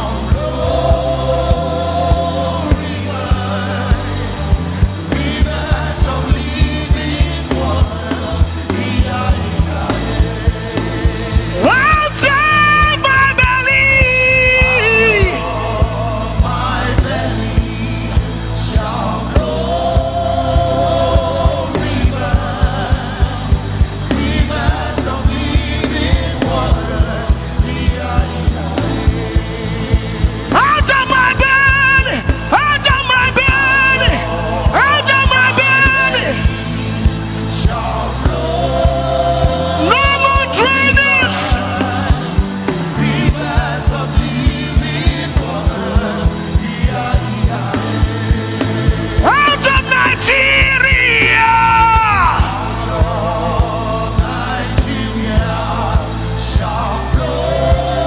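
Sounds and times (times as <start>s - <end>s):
person singing: 0.0s - 23.5s, 30.3s - 58.0s
band with bass and drums: 0.0s - 58.0s.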